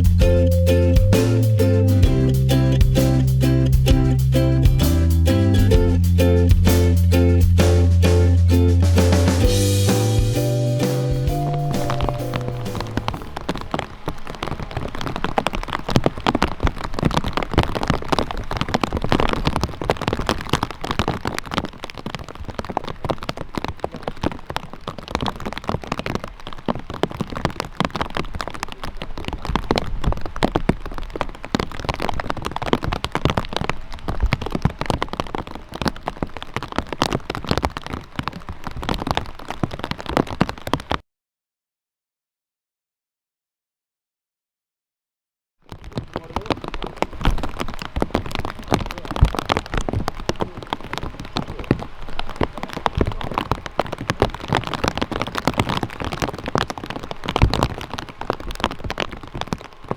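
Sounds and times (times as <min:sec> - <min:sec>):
steady rain: 0:00.0 - 0:41.0, 0:45.7 - 0:59.9.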